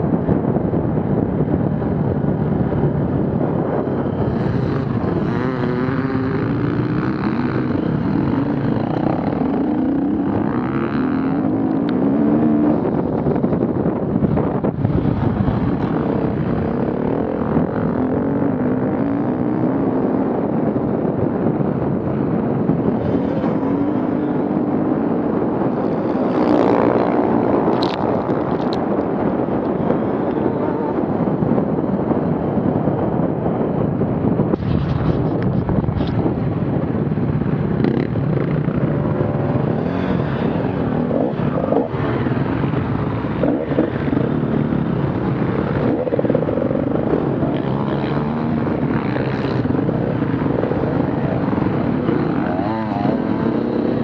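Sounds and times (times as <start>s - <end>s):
off-road engines revving: 1.4s - 20.8s, 21.4s - 32.3s, 34.6s - 54.0s.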